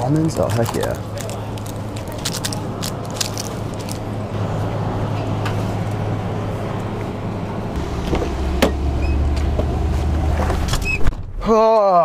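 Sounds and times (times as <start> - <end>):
vehicle engine running: 0.0 - 11.0
steady low hum: 0.0 - 11.2.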